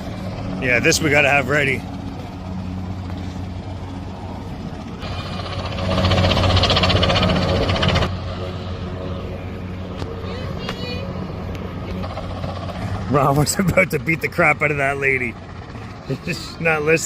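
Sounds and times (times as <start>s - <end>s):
loud rapid pulsing: 0.0s - 16.9s
engine humming: 0.0s - 17.0s.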